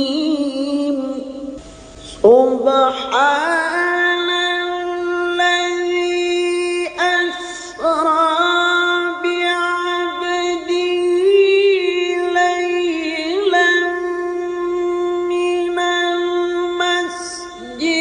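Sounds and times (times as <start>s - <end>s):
man reciting melodically: 2.1s - 18.0s.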